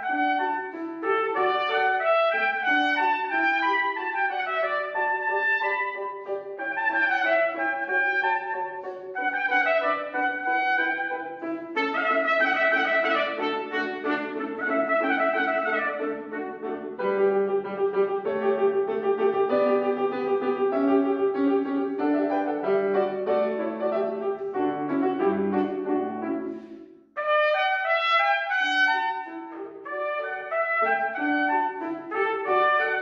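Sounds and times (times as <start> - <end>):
grand piano playing: 0.0 - 33.0.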